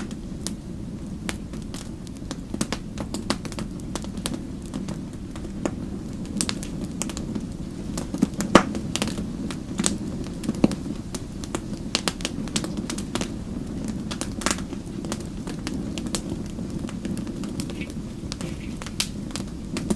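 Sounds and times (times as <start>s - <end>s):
low rush of burning flames: 0.0s - 19.9s
wood fire crackling and popping: 0.0s - 19.9s.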